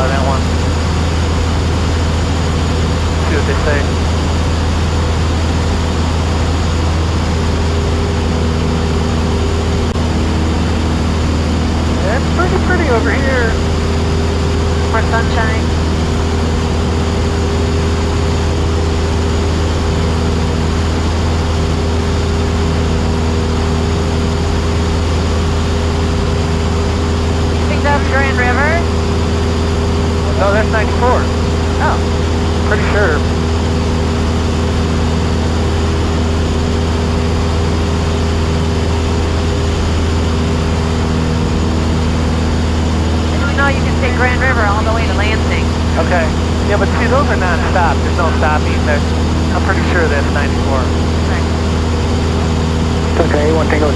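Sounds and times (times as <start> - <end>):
aircraft engine and propeller drone: 0.0 - 53.9.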